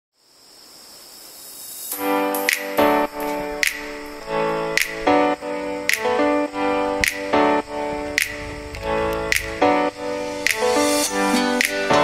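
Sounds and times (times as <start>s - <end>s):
steady hiss: 0.2s - 12.0s.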